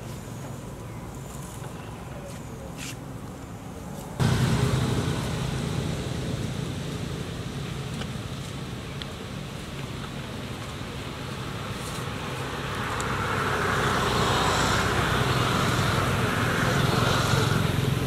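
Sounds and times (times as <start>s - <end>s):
passing motor vehicle hum: 0.0s - 18.0s.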